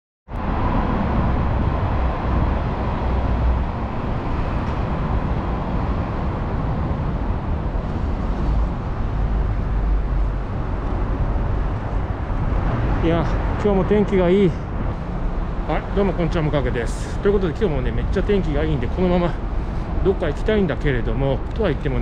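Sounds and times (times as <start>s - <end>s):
heavy low rumble: 0.3s - 22.0s.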